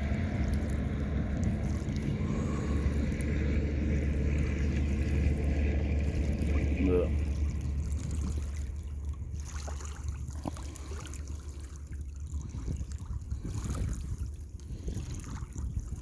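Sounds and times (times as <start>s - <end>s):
small waves lapping on rocks: 0.0s - 16.0s
steady low rumble: 0.0s - 16.0s.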